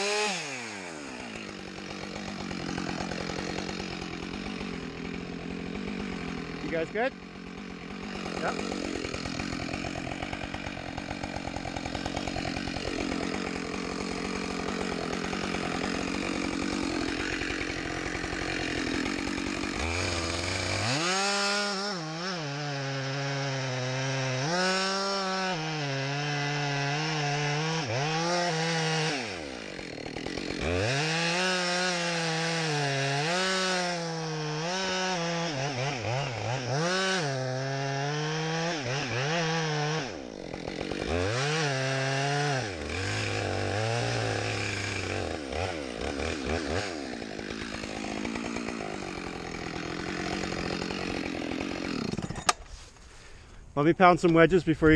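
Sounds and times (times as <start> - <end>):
chainsaw cutting tree trunk: 0.0 - 54.9.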